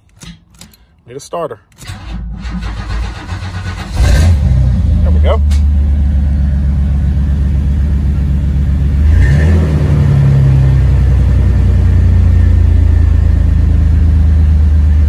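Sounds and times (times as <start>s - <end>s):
van engine idling: 2.0s - 15.0s.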